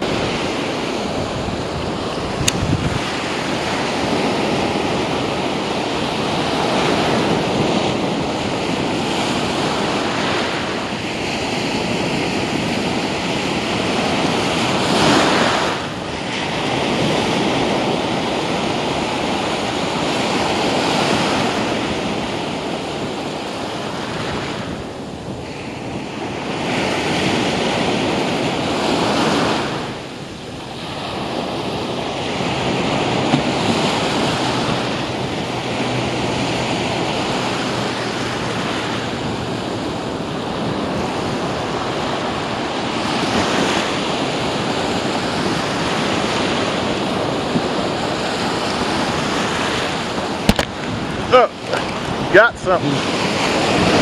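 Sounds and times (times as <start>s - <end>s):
surf washing on sand: 0.0s - 54.0s.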